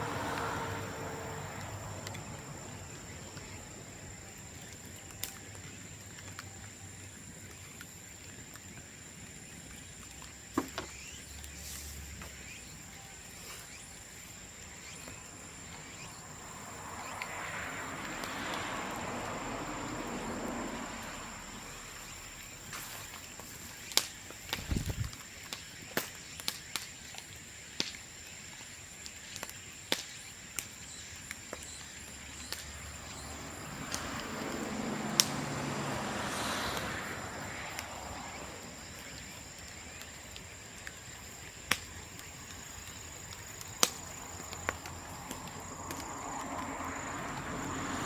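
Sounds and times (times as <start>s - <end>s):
bonfire popping and crackling: 0.0s - 48.0s
high insect trill: 0.0s - 48.0s.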